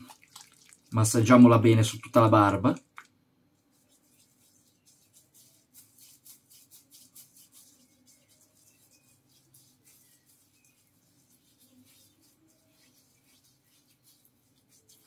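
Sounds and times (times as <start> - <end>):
hands rubbing beard: 0.0 - 15.0.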